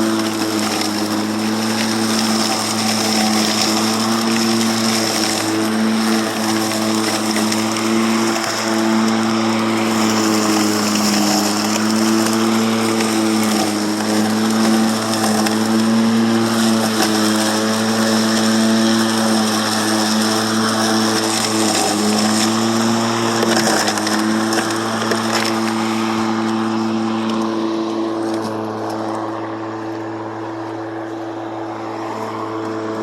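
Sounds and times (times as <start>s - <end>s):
electric lawn mower humming: 0.0s - 33.0s
grass being cut: 0.0s - 33.0s.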